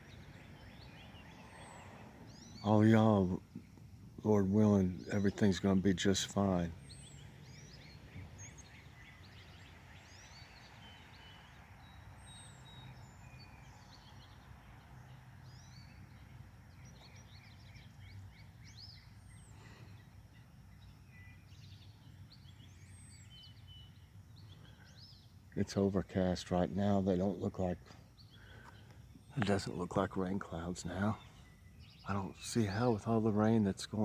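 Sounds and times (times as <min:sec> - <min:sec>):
songbirds chirping and singing: 0:00.0 - 0:34.0.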